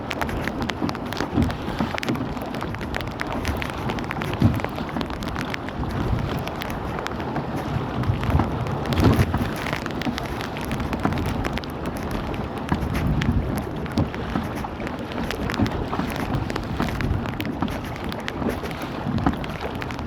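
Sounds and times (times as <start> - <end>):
raindrops ticking: 0.0 - 20.0.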